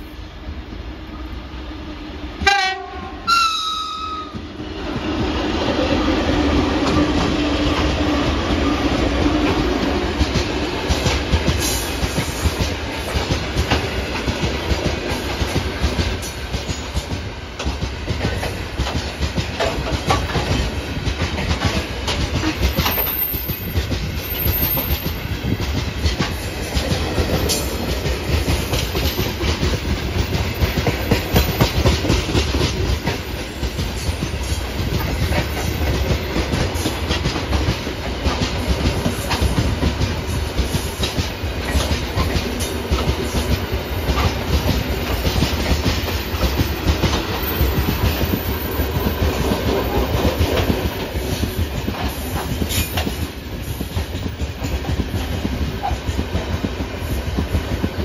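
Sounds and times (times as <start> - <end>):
clickety-clack of wheels: 4.3 - 58.0.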